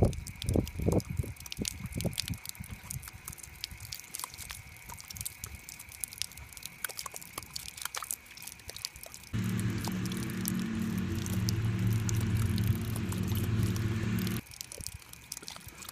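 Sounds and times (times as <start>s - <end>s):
water pattering and dripping: 0.0s - 15.9s.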